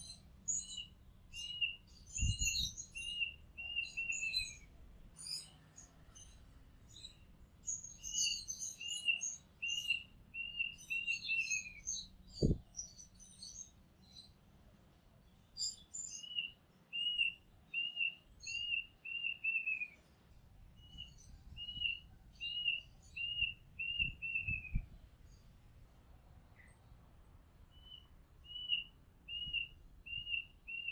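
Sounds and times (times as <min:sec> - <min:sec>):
bird chirping: 0:00.0 - 0:14.3, 0:15.6 - 0:20.0, 0:20.8 - 0:25.5, 0:27.7 - 0:30.9.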